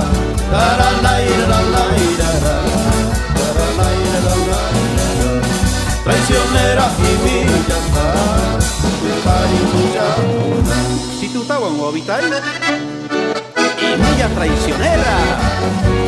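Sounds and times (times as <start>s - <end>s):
accordion melody: 0.0s - 16.0s
instrumental band music: 0.0s - 16.0s.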